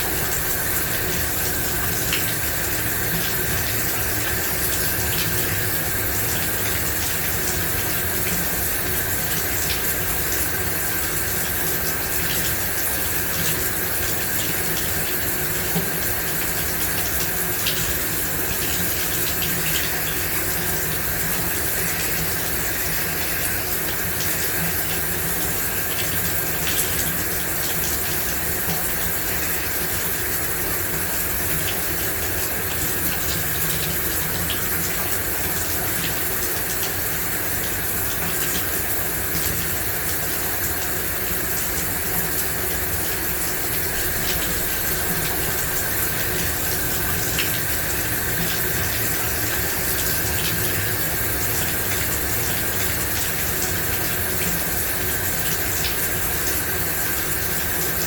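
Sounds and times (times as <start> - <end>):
faint drips and ticks: 0.1 - 58.0.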